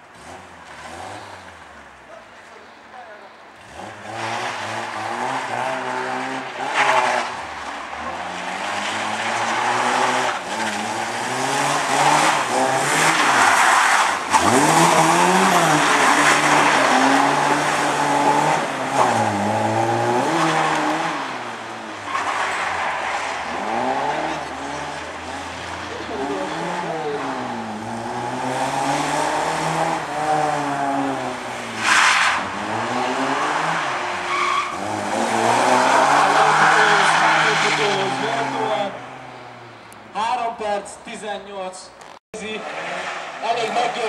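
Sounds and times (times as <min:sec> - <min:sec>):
car engine revving: 0:03.6 - 0:40.3, 0:42.0 - 0:44.0.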